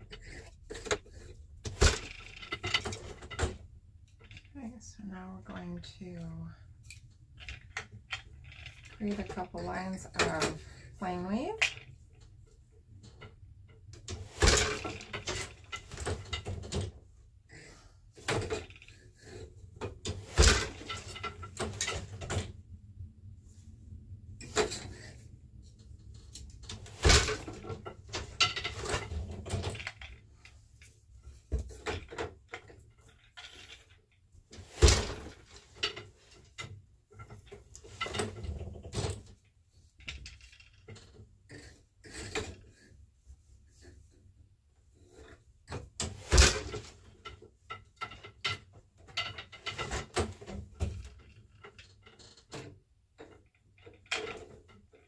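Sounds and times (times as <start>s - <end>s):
loom clatter: 0.0s - 4.6s, 5.3s - 12.4s, 13.0s - 17.0s, 18.2s - 22.5s, 24.4s - 43.0s, 45.0s - 55.0s.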